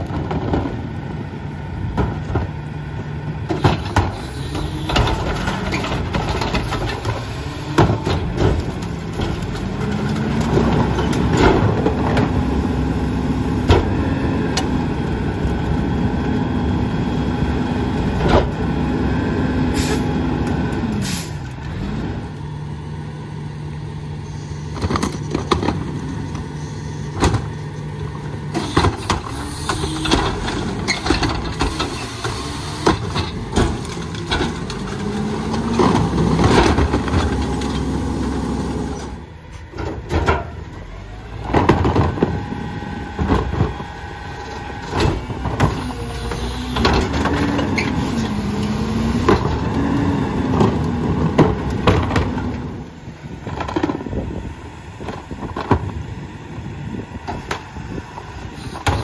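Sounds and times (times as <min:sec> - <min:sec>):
diesel truck engine idling and revving: 0:00.0 - 0:59.0
hydraulic packer running: 0:02.1 - 0:23.0, 0:23.6 - 0:59.0.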